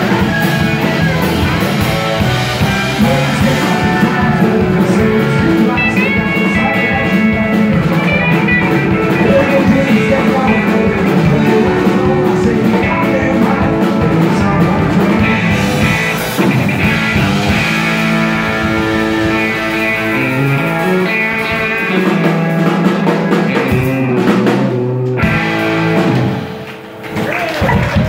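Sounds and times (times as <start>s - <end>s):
steel guitar: 0.0s - 26.7s
drum kit: 0.0s - 28.0s
electric bass: 0.0s - 28.0s
electric guitar: 0.0s - 28.0s.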